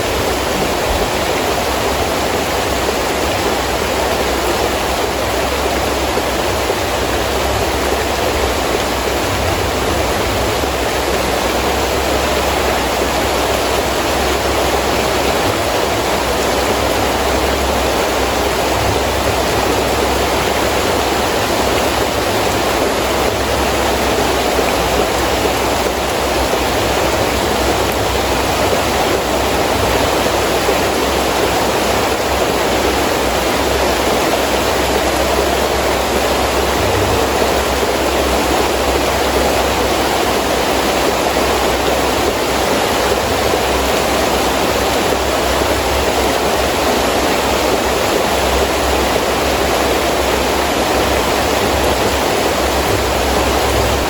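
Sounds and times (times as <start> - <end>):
heavy rain: 0.0 - 54.0
low wind rumble: 0.0 - 54.0.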